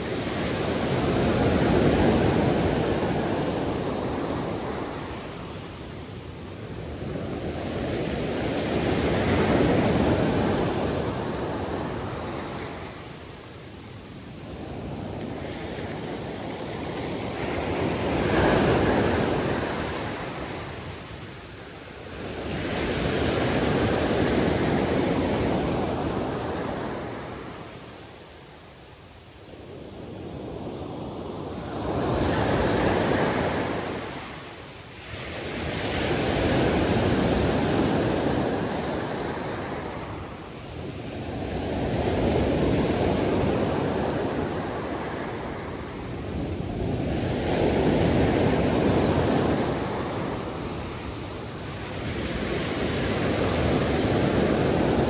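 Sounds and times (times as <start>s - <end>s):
sea waves washing in: 0.0s - 55.0s.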